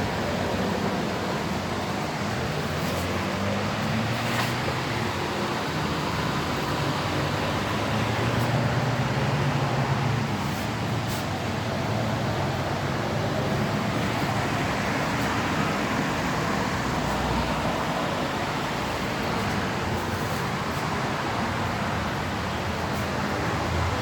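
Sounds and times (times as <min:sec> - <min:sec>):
loud car exhaust and engine: 0:00.0 - 0:24.0
road noise: 0:00.0 - 0:24.0.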